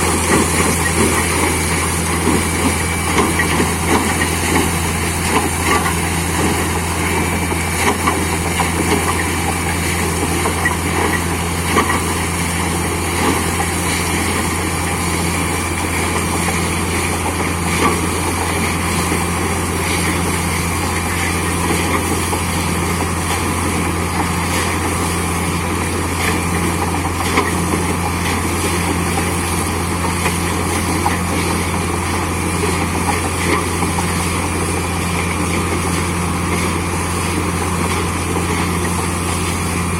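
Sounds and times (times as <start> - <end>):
drilling rig engine hum: 0.0 - 39.9.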